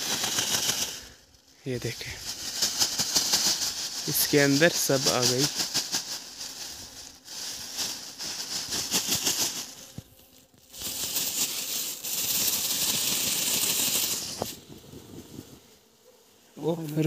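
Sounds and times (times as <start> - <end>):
plastic bag rustling: 0.0 - 14.6.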